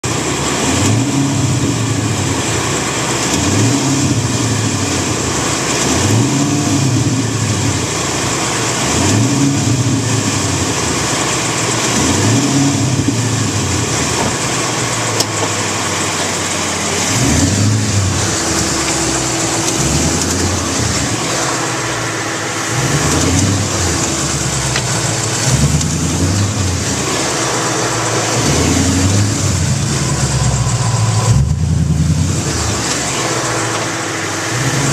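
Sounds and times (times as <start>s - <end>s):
car engine revving: 0.0s - 34.9s
engine ticking: 0.0s - 34.9s.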